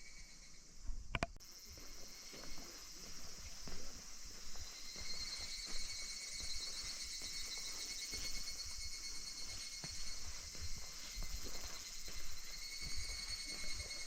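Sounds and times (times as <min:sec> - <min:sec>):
cicadas trilling: 0:00.0 - 0:14.0.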